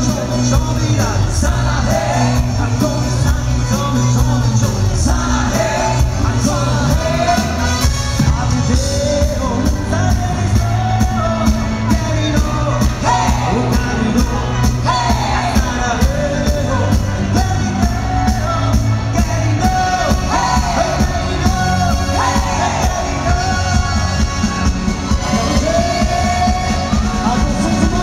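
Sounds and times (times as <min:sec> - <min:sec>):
bass: 0:00.0 - 0:28.0
live band playing dance music: 0:00.0 - 0:28.0
person singing: 0:00.0 - 0:28.0
steady drum beat: 0:00.0 - 0:28.0.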